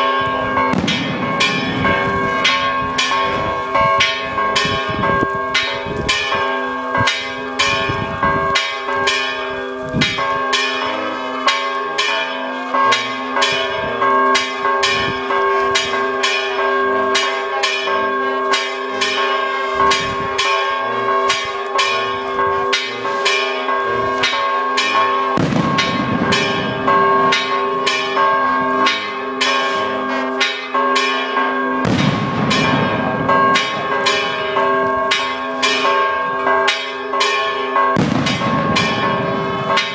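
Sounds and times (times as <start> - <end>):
church bells ringing rapidly: 0.0 - 39.9.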